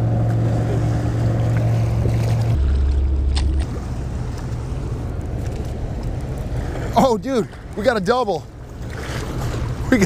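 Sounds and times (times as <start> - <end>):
motorboat engine drone: 0.0 - 10.0
water wash: 0.0 - 10.0.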